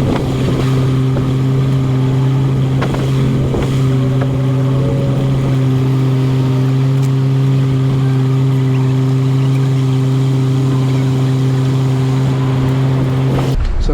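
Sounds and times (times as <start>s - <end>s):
steady motor drone: 0.0s - 13.6s.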